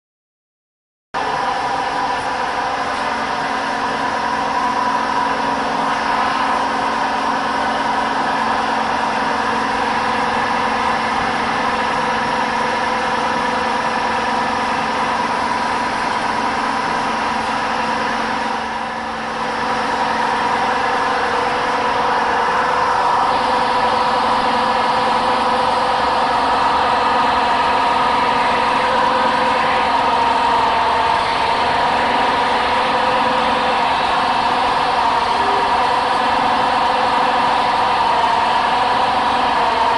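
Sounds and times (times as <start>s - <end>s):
metal spinning lathe humming: 1.2s - 39.9s.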